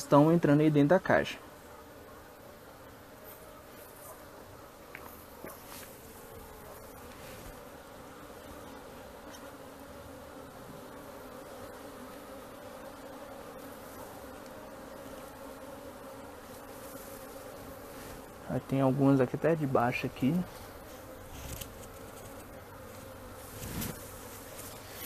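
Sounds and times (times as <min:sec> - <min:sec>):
honey bees buzzing: 0:00.0 - 0:25.0.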